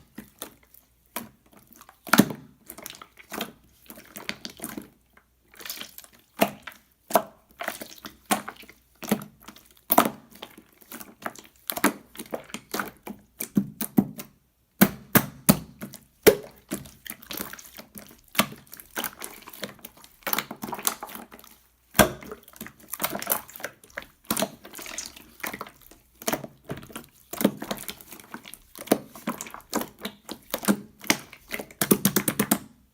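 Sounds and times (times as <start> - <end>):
slime squished by hand: 5.5 - 32.7.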